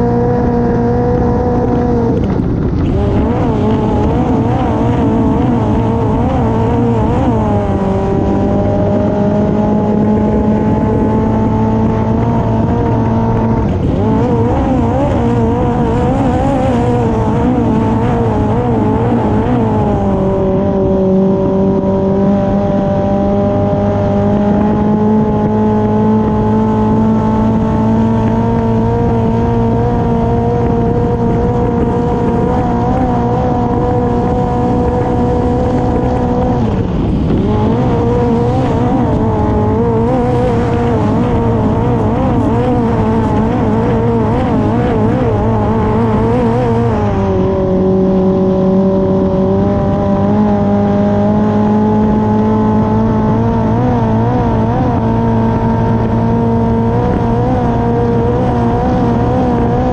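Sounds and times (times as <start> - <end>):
boat engine running hard: 0.0 - 59.9.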